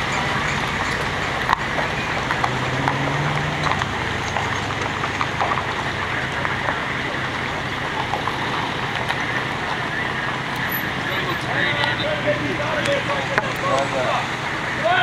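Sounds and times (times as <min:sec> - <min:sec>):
vehicle and trailer rumbling: 0:00.0 - 0:15.0.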